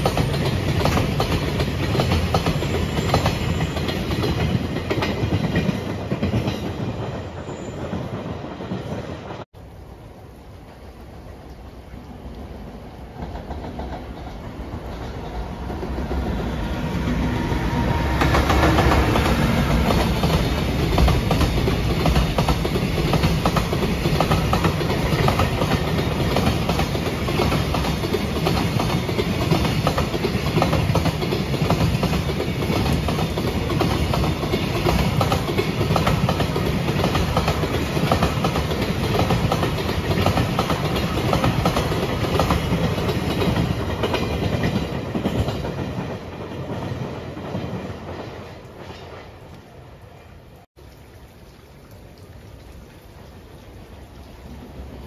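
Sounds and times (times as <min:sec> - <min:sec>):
freight train rolling on rails: 0:00.0 - 0:50.7.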